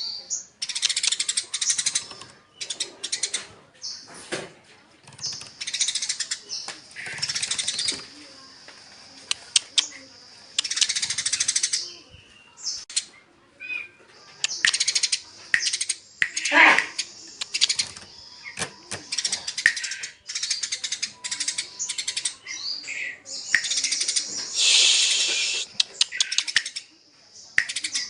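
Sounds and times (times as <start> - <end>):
sparrows chirping: 0.0 - 4.3, 5.0 - 28.0.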